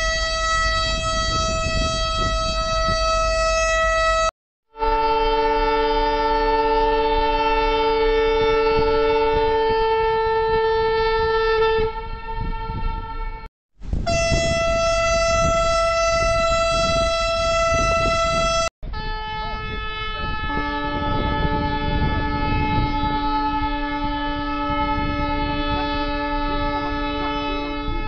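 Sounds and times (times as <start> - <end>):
ship horns blasting: 0.0 - 28.0.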